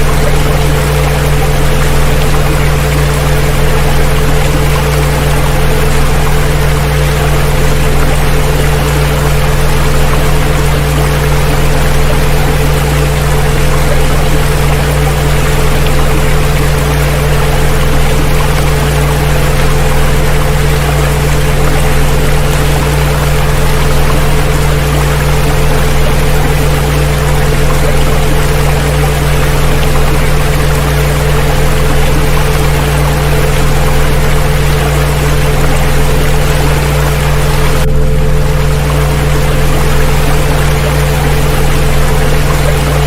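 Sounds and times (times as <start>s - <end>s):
rushing water: 0.0s - 43.0s
steady pure tones: 0.0s - 43.0s.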